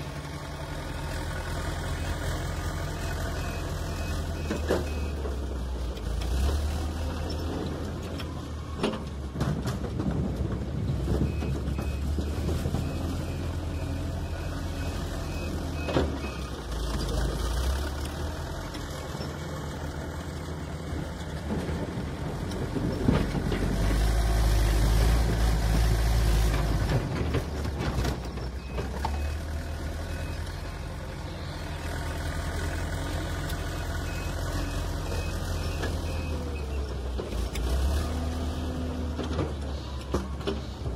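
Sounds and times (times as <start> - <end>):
diesel engine revving: 0.0 - 40.9.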